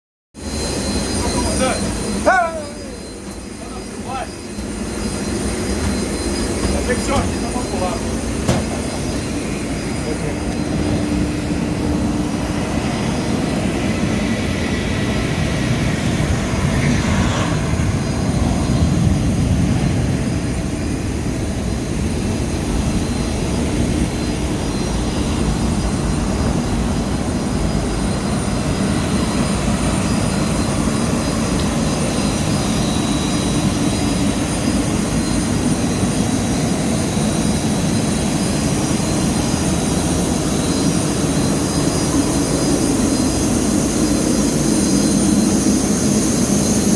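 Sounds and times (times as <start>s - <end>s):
jet turbine whine: 0.4s - 46.9s.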